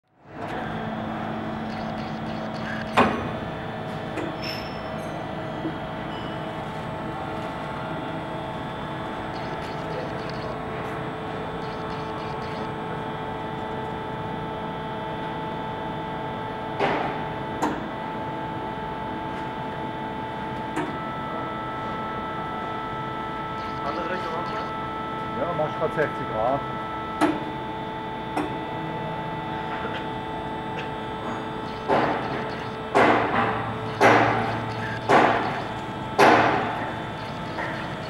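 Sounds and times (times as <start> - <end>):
industrial machinery hum: 0.0 - 38.0.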